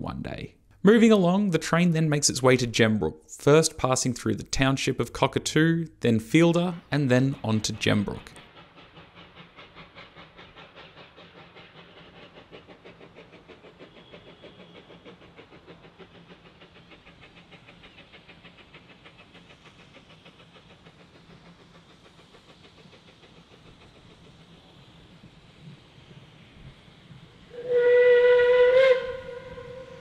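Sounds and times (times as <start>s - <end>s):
steam locomotive chuffing: 0.8s - 30.0s.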